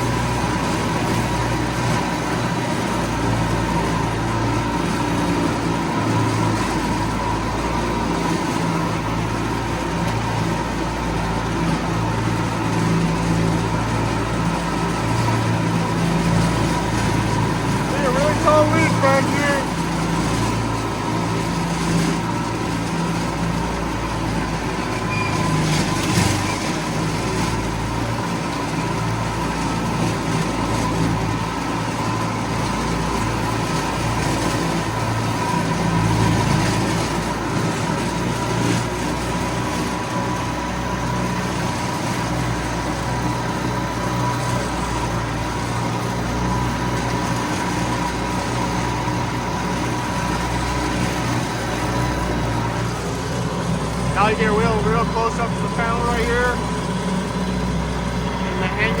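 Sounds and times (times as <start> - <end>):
mower running through grass: 0.0 - 59.0
tractor engine running: 0.0 - 59.0.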